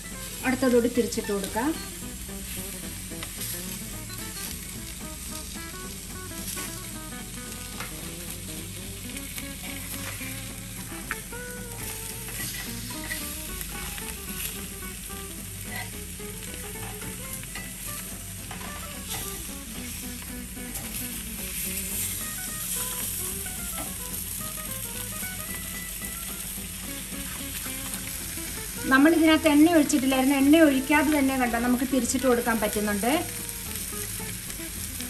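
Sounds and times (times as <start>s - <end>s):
fish sizzling: 0.0s - 35.0s.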